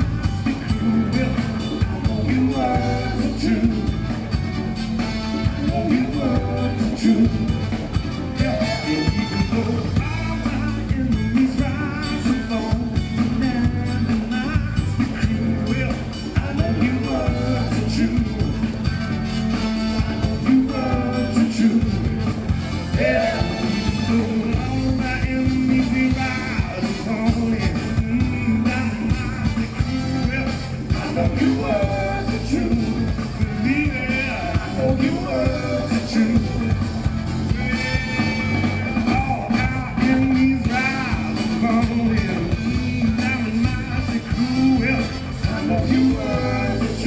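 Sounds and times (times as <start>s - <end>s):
person singing: 0.0s - 4.4s, 5.4s - 18.8s, 19.9s - 22.2s, 22.9s - 47.0s
rock song with drums bass and guitar: 0.0s - 47.0s.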